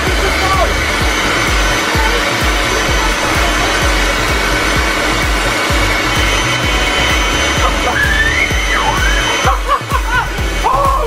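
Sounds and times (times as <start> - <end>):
leaf blower running: 0.0 - 11.0.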